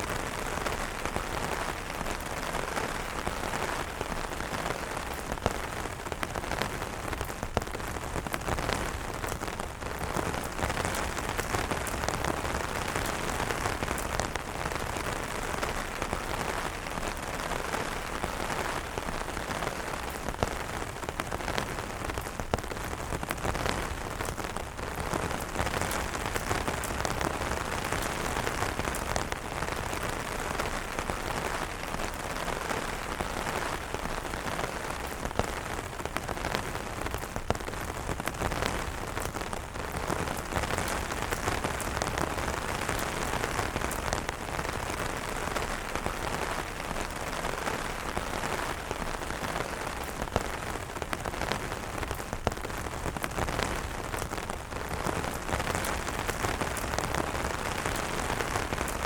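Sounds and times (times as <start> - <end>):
rain falling on umbrellas: 0.0 - 59.0.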